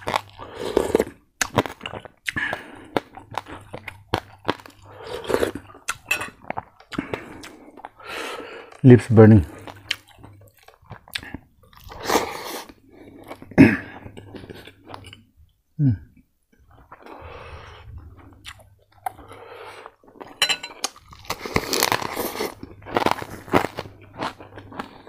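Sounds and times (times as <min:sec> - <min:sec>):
chewing crispy fried food: 0:00.0 - 0:08.0, 0:08.6 - 0:15.3, 0:18.0 - 0:25.0.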